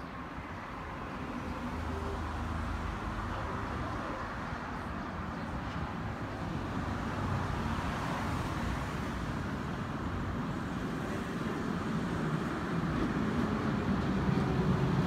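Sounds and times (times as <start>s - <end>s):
cars passing on road: 0.0s - 15.0s.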